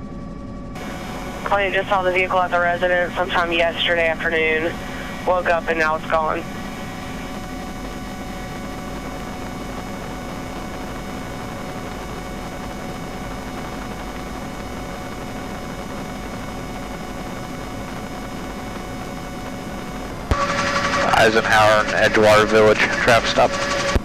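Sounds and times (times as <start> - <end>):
faint high whining tones: 0.0 - 24.0
helicopter cabin hum and rushing: 0.0 - 24.0.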